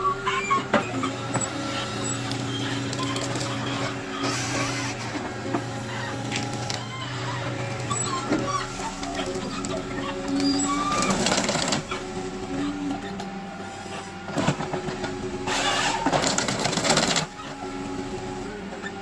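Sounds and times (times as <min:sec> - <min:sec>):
heavy machine engine humming: 0:00.0 - 0:19.0
noisy surges of machine work: 0:00.0 - 0:19.0.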